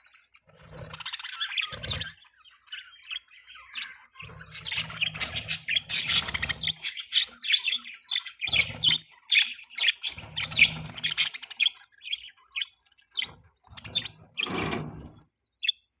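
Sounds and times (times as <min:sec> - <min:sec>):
budgies chirping: 0:00.0 - 0:16.0.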